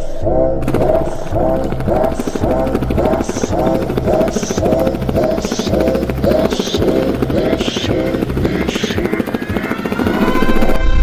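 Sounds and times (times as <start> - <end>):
beatboxing helicopter imitation: 0.0 - 10.8.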